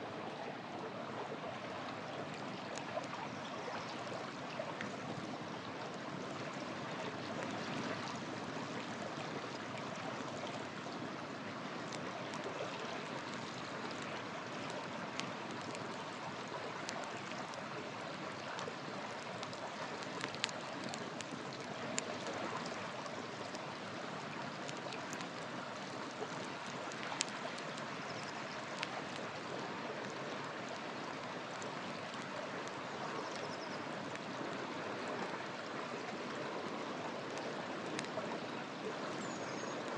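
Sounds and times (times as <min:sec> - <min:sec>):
river water flowing: 0:00.0 - 0:39.9
campfire popping and crackling: 0:04.1 - 0:39.1.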